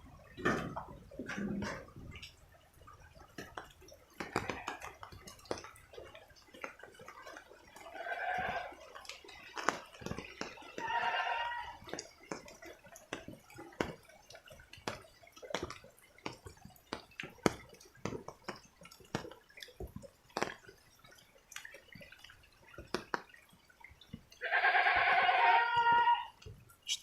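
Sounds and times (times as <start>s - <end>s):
water dripping: 0.0s - 27.0s.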